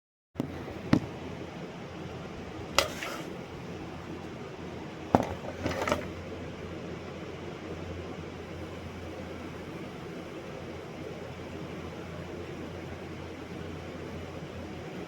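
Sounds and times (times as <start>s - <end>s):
low hum and hiss: 0.4s - 15.0s.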